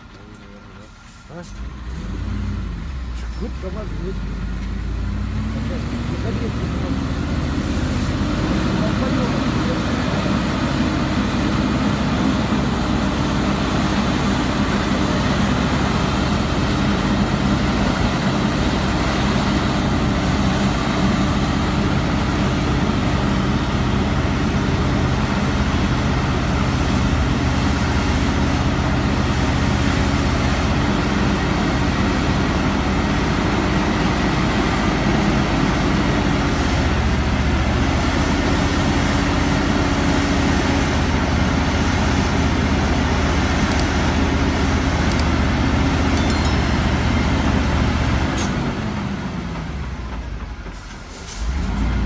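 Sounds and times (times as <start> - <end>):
diesel truck engine running: 0.0 - 52.0.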